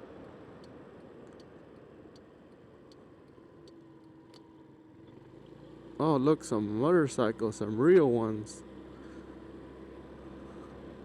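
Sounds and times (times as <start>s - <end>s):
steady scooter hum: 0.0s - 11.0s.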